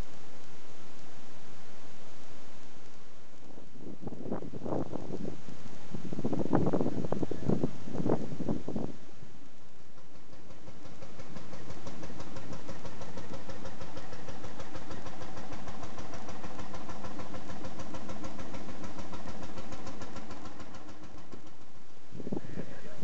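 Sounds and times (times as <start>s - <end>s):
tractor engine driving past: 4.3s - 23.0s.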